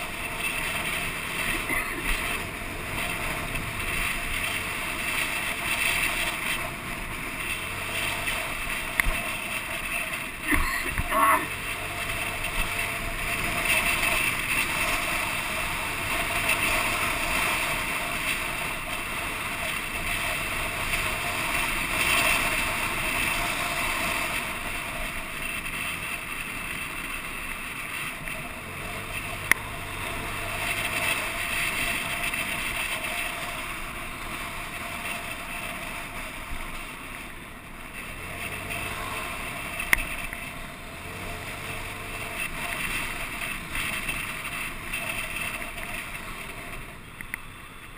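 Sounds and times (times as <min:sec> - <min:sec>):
faint traffic hum: 0:00.0 - 0:47.9.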